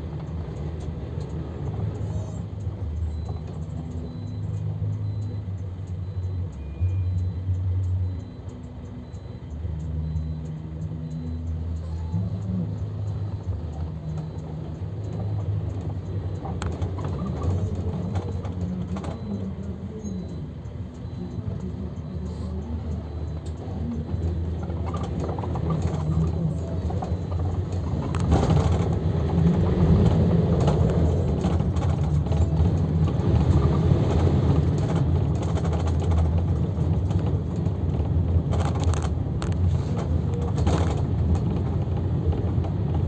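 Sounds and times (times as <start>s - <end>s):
minibus engine drone: 0.0s - 43.0s
road and rattle noise: 0.0s - 43.0s.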